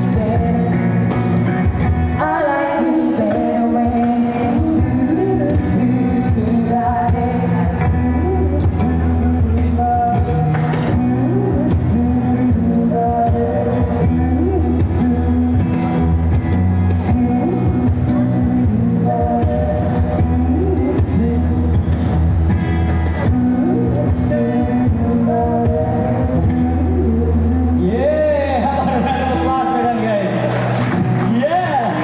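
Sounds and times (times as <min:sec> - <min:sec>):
man singing into microphone: 0:00.0 - 0:01.3, 0:02.1 - 0:16.2, 0:16.8 - 0:22.1, 0:23.2 - 0:30.4
electric guitar: 0:00.0 - 0:32.0
low bass: 0:00.0 - 0:32.0.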